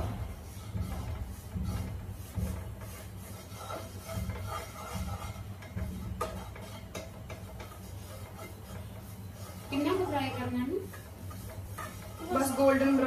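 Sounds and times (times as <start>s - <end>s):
spatula scraping a frying pan: 0.0s - 13.0s.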